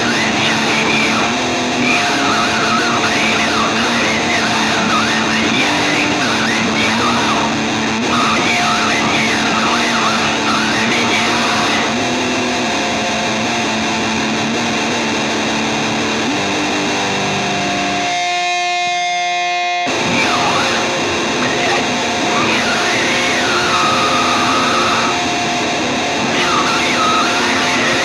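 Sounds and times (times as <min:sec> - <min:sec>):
loud distorted music: 0:00.0 - 0:28.0.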